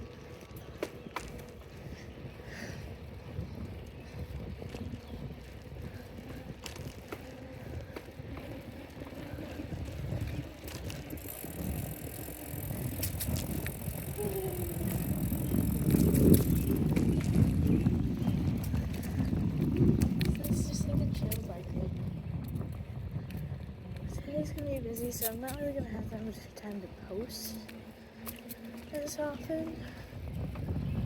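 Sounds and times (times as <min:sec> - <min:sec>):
bicycle clicks and rattles: 0:00.0 - 0:31.0
bicycle ride rumble: 0:00.0 - 0:31.0.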